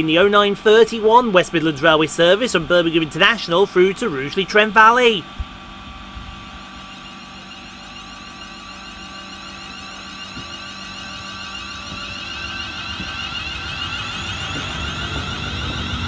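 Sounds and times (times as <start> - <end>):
electric train motors whining: 0.0 - 16.0.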